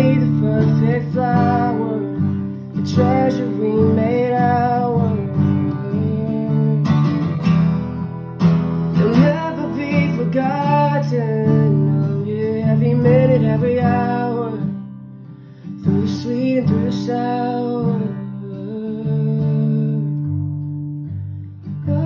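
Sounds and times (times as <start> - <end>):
man singing: 0.0 - 7.7, 8.9 - 14.9, 15.6 - 20.4, 21.7 - 22.0
acoustic guitar strumming: 0.0 - 22.0.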